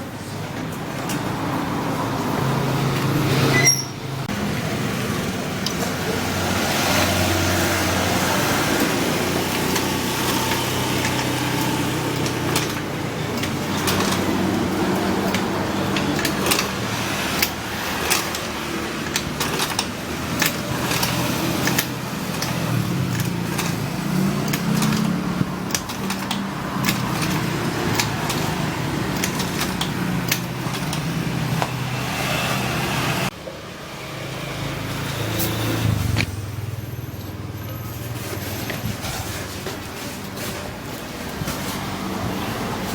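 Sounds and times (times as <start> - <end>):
scooter engine running: 1.3 - 42.9.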